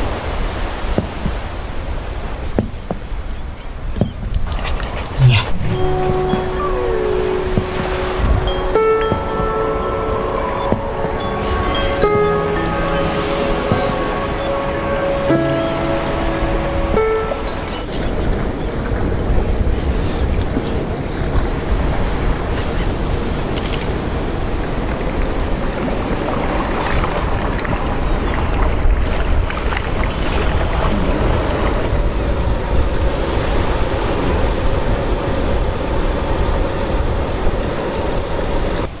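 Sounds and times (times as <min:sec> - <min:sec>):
small waves sloshing and splashing: 0:00.0 - 0:37.8
wind rumbling on microphone: 0:00.0 - 0:39.0.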